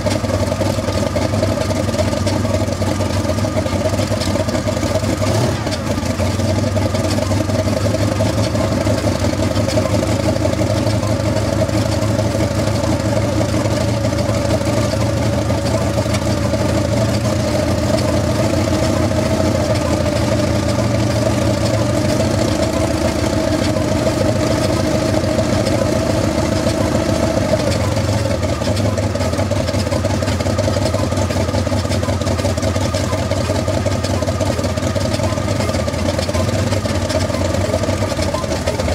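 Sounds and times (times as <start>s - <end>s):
helicopter piston engine running: 0.0s - 38.9s.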